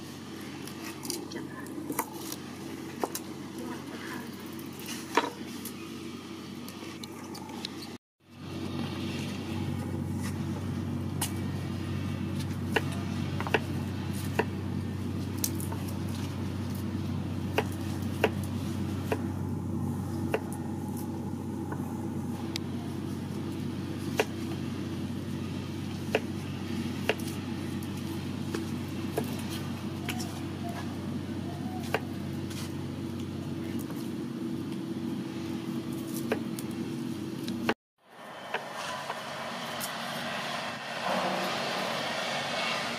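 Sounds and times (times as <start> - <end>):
low hum: 5.6 - 42.9.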